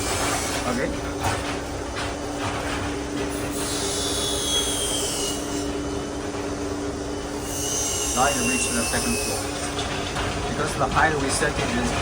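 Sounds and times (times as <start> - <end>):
hoist motor hum and whine: 0.0 - 12.0.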